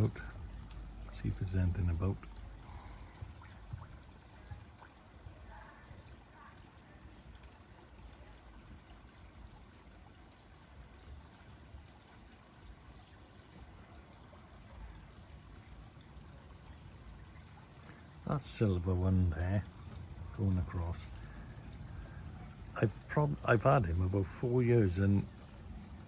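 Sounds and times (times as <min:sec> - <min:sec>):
trickle of running water: 0:00.0 - 0:26.0.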